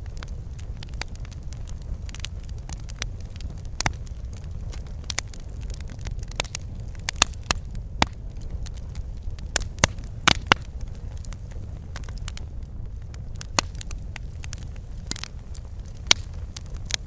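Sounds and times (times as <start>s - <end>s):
fire burning rumble: 0.0s - 17.0s
fire crackling and popping: 0.0s - 17.0s.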